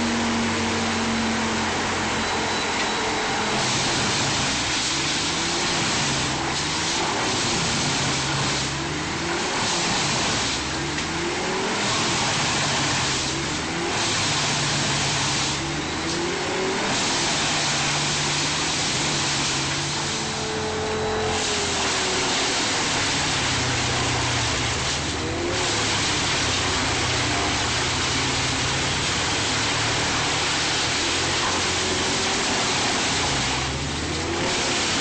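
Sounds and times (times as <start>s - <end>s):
wood chipper engine: 0.0s - 35.0s
wood shredding noise: 0.0s - 35.0s.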